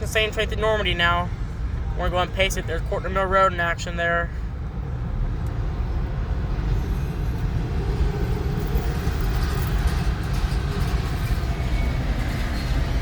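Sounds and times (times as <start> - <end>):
car driving road noise: 0.0 - 13.0.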